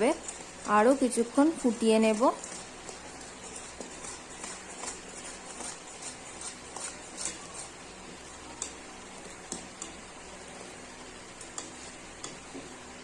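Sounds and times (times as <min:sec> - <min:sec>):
boiling pot hissing: 0:00.0 - 0:13.0.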